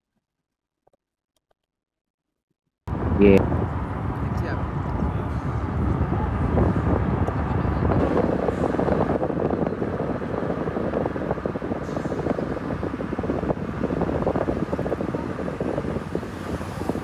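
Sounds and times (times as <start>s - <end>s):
road noise: 2.9s - 17.0s
wind rushing over microphone: 2.9s - 17.0s.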